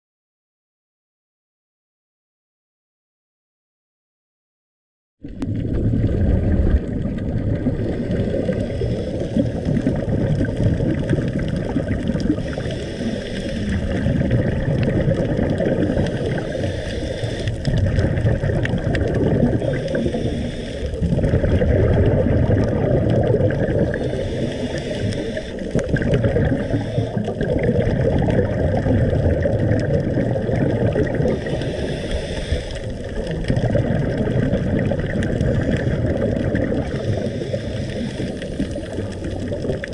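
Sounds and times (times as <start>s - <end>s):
muffled underwater rumble: 5.2s - 39.9s
exhaust bubbles hissing: 5.3s - 39.9s.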